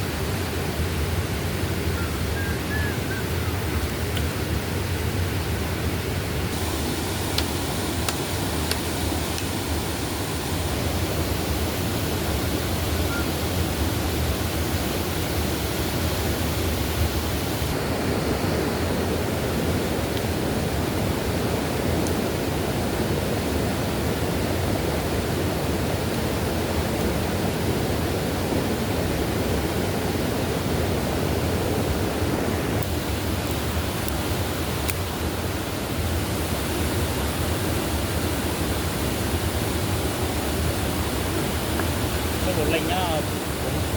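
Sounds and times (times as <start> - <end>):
stream rushing: 0.0 - 43.9.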